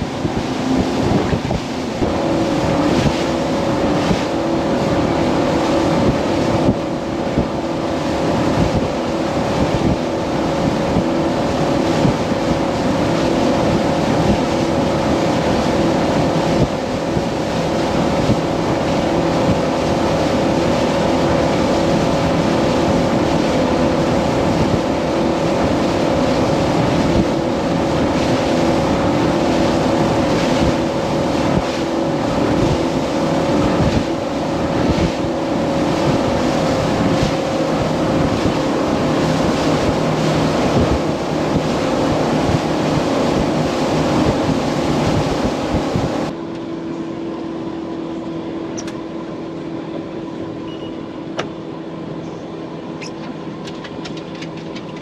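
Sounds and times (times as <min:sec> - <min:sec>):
hull knocking in waves: 0:00.0 - 0:46.3
wind buffeting microphone: 0:00.0 - 0:46.3
outboard motor humming: 0:00.0 - 0:55.0.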